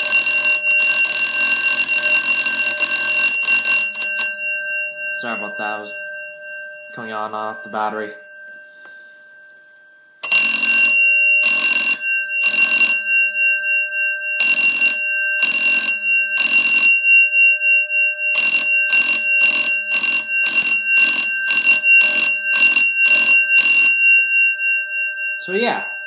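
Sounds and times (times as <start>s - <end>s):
fire alarm bell ringing: 0.0s - 26.0s.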